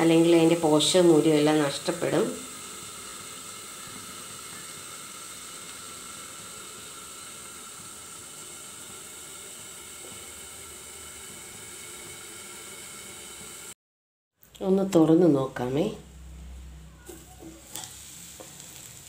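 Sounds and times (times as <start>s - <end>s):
covered pan steaming hiss: 0.0s - 13.8s, 16.2s - 19.0s.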